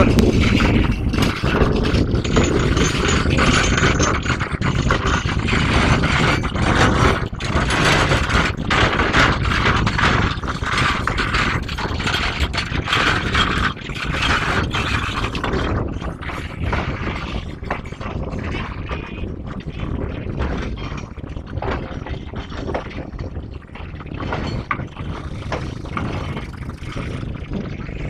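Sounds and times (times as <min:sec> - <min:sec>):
train wagons clanking and rattling: 0:00.0 - 0:28.0.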